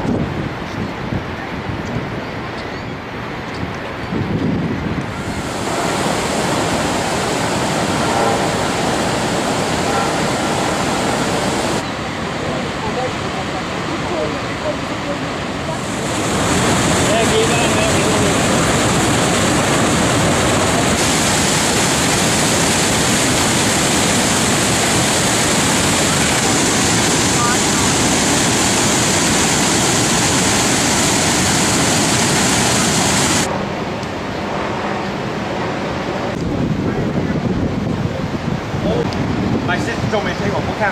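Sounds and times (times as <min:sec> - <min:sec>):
roar of rushing water: 0:04.6 - 0:40.9.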